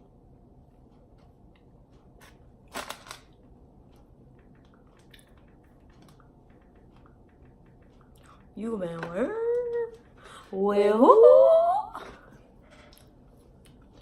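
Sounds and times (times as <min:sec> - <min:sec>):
soft chewing: 0:00.4 - 0:02.6, 0:03.4 - 0:10.6, 0:12.2 - 0:14.0.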